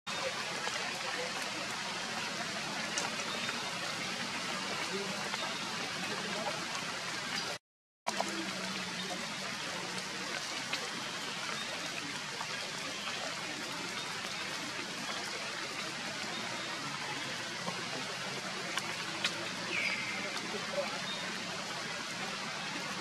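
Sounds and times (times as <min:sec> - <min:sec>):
rain on foliage: 0:00.1 - 0:23.0.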